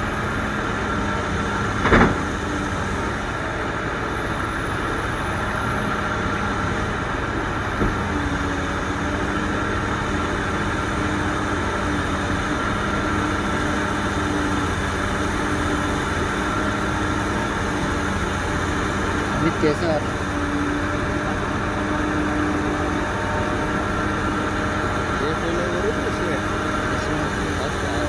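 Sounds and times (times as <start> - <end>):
heavy diesel machinery hum: 0.0 - 28.0.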